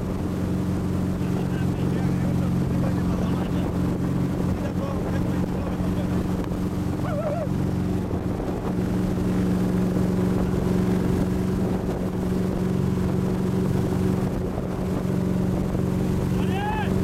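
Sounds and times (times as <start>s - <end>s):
boat wake rushing: 0.0s - 17.0s
motorboat engine humming: 0.0s - 17.0s
wind on microphone: 0.0s - 17.0s.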